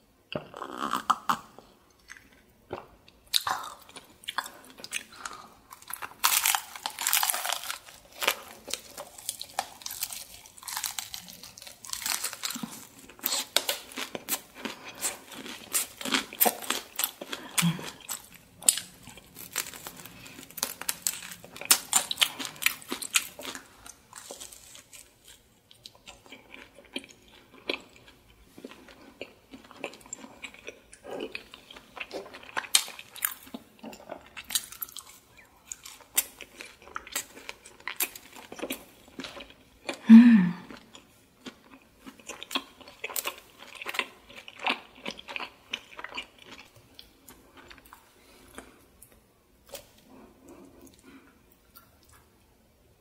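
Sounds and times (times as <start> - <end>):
crunching fried chicken: 3.3 - 40.0, 40.7 - 48.8.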